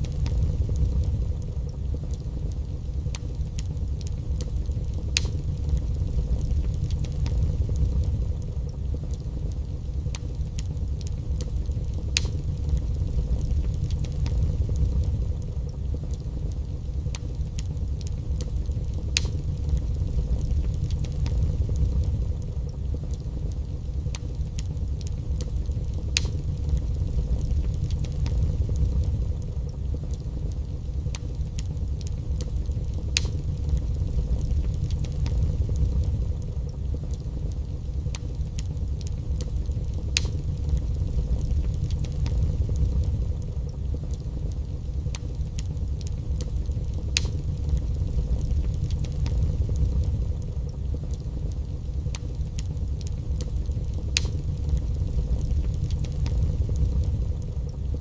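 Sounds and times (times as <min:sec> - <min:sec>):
fire crackling and popping: 0:00.0 - 0:58.0
fire low rumble: 0:00.0 - 0:58.0.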